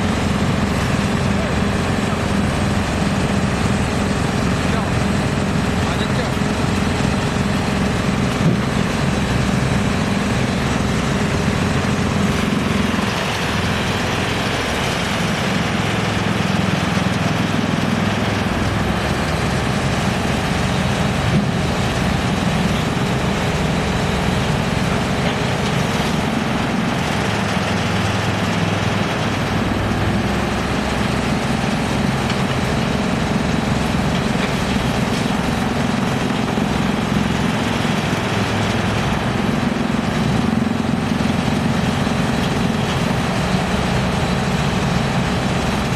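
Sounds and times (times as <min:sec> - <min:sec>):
wood crusher machine humming: 0:00.0 - 0:45.9.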